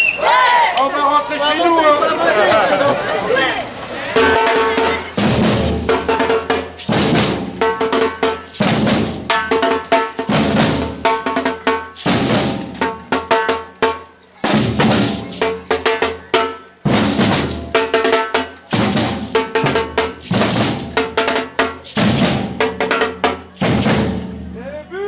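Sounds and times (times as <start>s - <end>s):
samba drumming ensemble: 1.4s - 24.8s.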